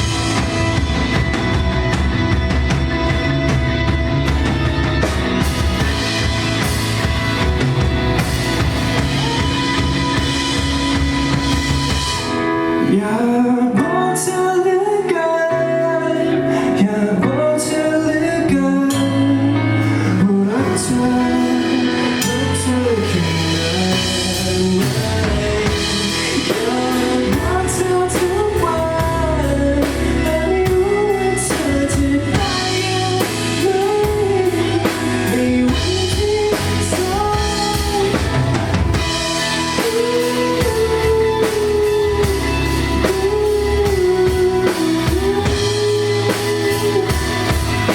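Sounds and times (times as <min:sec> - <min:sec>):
live band with lead singer: 0:00.0 - 0:47.9.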